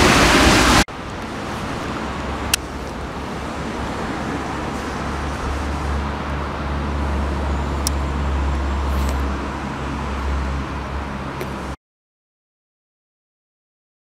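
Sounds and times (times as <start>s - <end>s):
traffic rumble: 0.0s - 11.8s.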